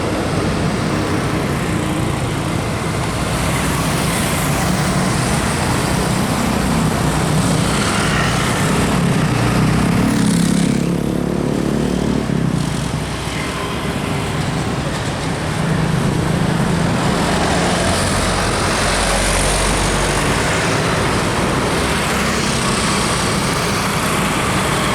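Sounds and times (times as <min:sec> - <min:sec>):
heavy vehicle engine: 0:00.0 - 0:24.9
road noise: 0:00.0 - 0:24.9.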